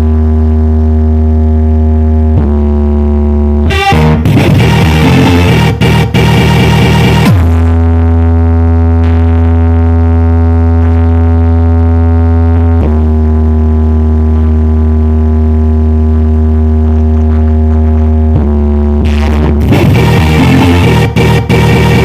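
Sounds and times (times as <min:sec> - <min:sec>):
deep bass note from speakers: 0:00.0 - 0:22.0.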